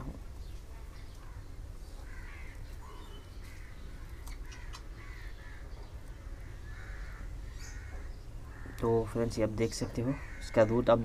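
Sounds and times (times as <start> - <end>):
birds cawing: 1.0 - 11.0.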